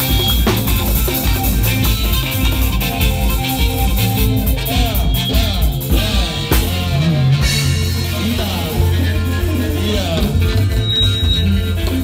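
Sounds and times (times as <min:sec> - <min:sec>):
live band playing dance music: 0:00.0 - 0:12.0
sliding lead melody: 0:00.0 - 0:12.0.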